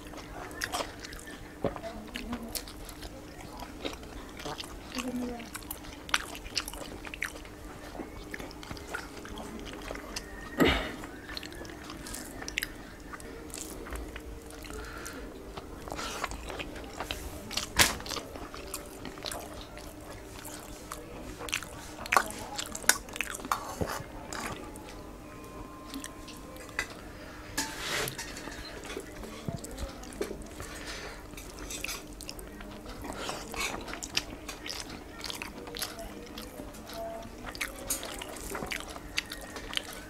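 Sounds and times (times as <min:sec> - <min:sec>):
man chewing with wet mouth sounds: 0:00.0 - 0:40.0.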